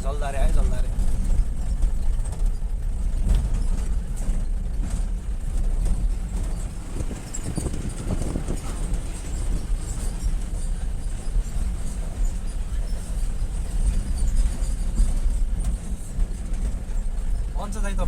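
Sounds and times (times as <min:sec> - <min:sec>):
vehicle road rumble: 0:00.0 - 0:18.0
wind buffeting microphone: 0:00.6 - 0:17.6
knocks and rattles: 0:00.9 - 0:17.6.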